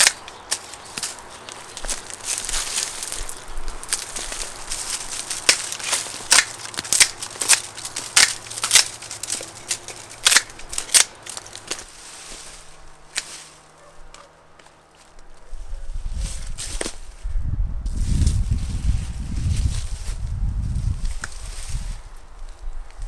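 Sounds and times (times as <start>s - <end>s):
dry stalks snapping: 0.0s - 17.2s, 17.9s - 23.0s.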